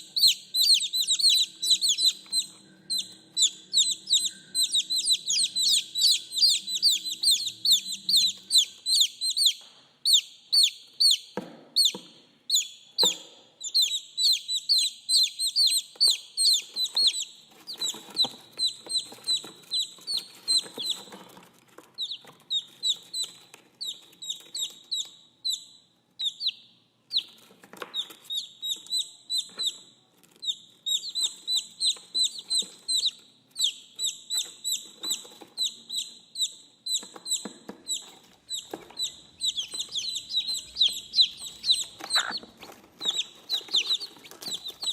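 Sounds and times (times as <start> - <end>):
baby chicks peeping: 0.0 - 44.9.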